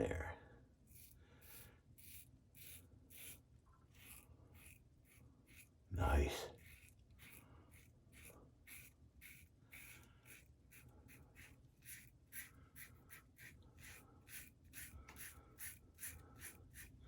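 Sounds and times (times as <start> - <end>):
razor scraping stubble: 0.9 - 17.0.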